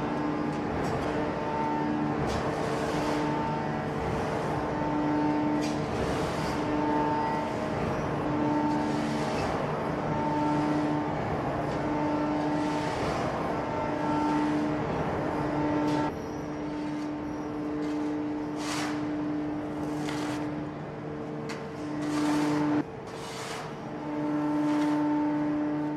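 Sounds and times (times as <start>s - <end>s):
machinery drone: 0.0s - 22.9s
machine hum tones: 0.0s - 25.9s.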